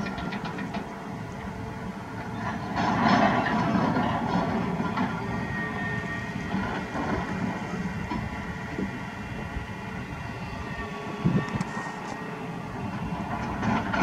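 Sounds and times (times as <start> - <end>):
excavator diesel engine under load: 0.0 - 14.0.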